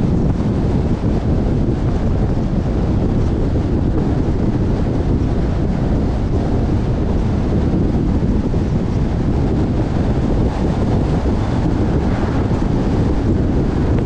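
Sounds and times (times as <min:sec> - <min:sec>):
low road rumble: 0:00.0 - 0:14.0
wind buffeting microphone: 0:00.0 - 0:14.0.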